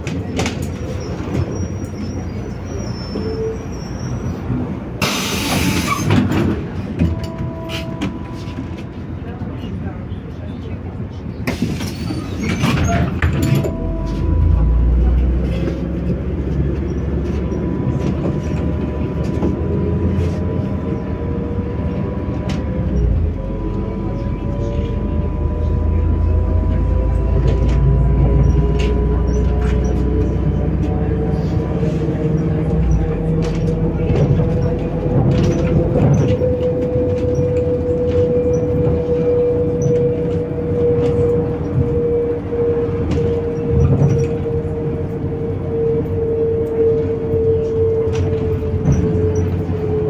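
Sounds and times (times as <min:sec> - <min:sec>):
bus engine whine: 0:00.0 - 0:50.0.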